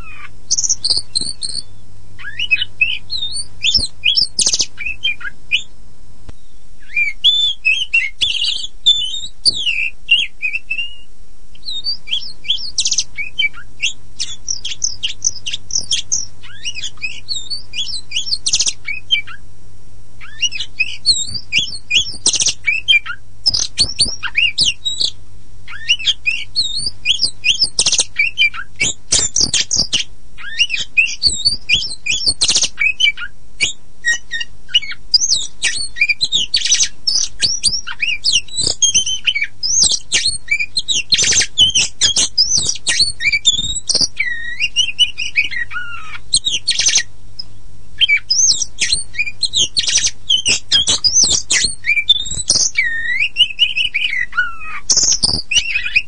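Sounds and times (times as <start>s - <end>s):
bird singing whistles and chirps: 0.0s - 5.8s, 6.4s - 19.4s, 20.2s - 56.0s
faint low hum: 0.0s - 56.0s.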